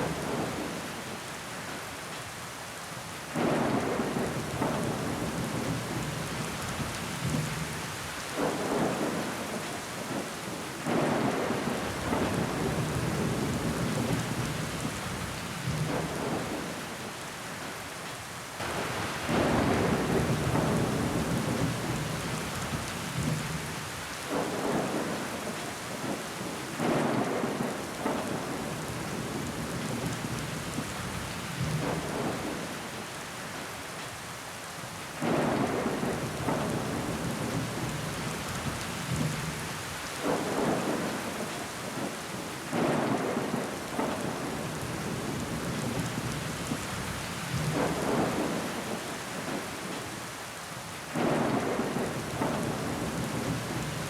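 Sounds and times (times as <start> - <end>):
rain on window glass: 3.2 - 54.0.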